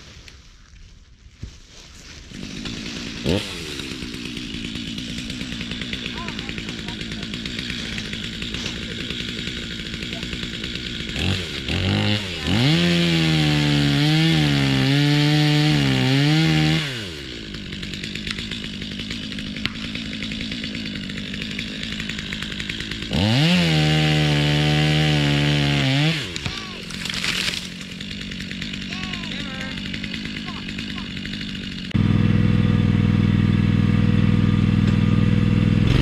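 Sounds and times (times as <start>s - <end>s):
chainsaw revving and cutting: 2.0s - 36.0s.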